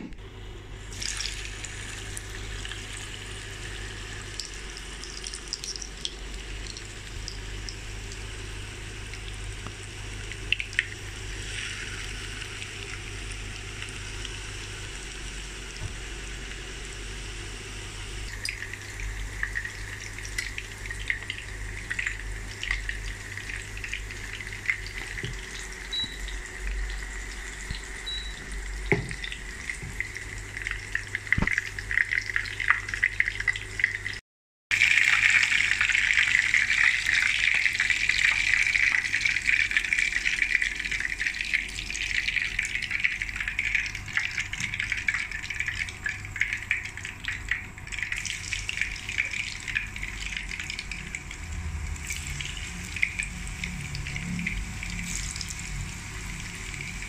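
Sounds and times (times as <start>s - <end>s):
low steady hum: 0.0s - 34.2s, 34.8s - 57.0s
meat sizzling in hot oil: 0.9s - 57.0s.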